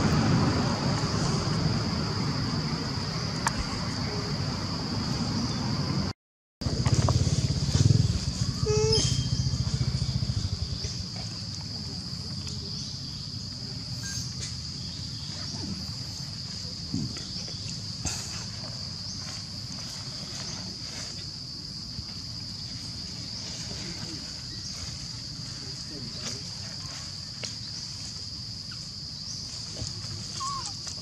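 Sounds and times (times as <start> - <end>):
low engine-like rumble: 0.0 - 28.8
insects droning: 0.0 - 31.0.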